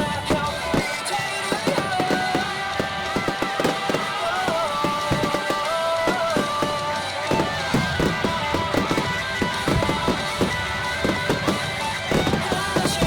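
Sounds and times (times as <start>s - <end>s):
fireworks banging: 0.0s - 13.0s
music with held melody: 0.0s - 13.0s.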